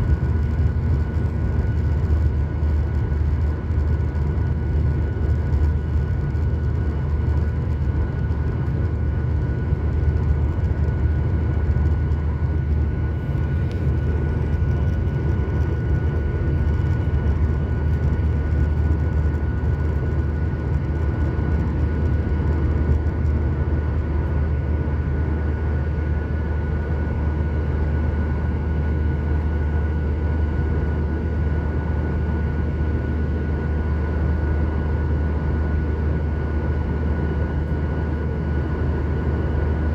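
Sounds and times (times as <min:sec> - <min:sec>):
jet engine and airflow rumble: 0:00.0 - 0:39.9
thin steady whine: 0:00.0 - 0:39.9.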